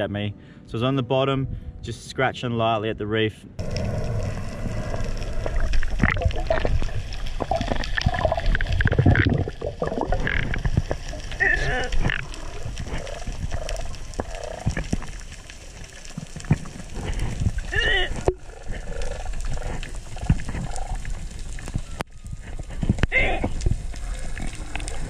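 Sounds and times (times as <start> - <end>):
muffled underwater rumble: 3.6 - 25.0
underwater clicks and crackles: 3.6 - 25.0.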